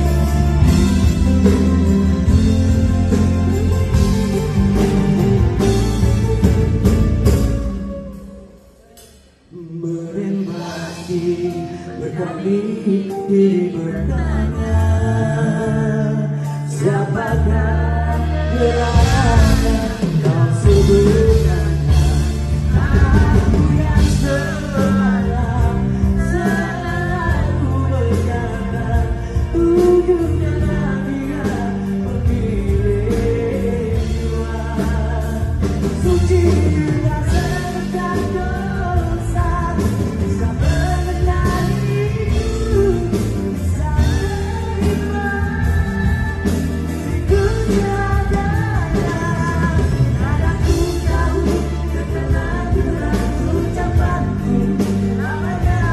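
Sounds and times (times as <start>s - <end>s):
pop-rock band playing: 0.0s - 55.9s
man singing: 9.3s - 55.9s.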